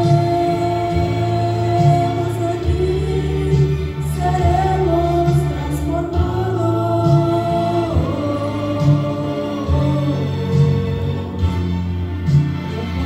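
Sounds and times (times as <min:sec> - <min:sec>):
woman singing into a microphone: 0:00.0 - 0:11.4
instrumental backing: 0:00.0 - 0:13.0.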